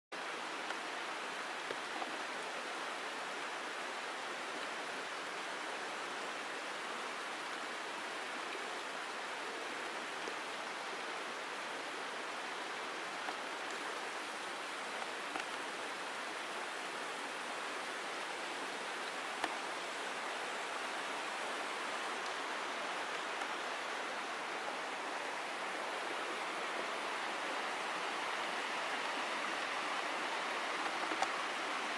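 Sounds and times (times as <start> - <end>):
stream flowing over rocks: 0.2 - 31.9.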